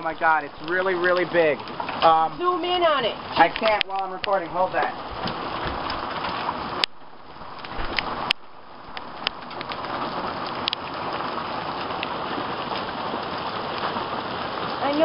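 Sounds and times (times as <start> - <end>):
hail and heavy rain hissing: 0.0 - 15.0
hailstones ticking: 0.0 - 15.0.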